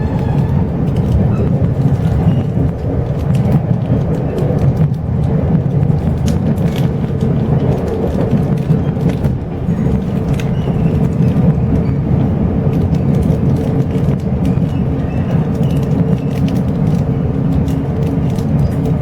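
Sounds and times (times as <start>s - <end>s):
train rumbling inside coach: 0.0s - 19.0s.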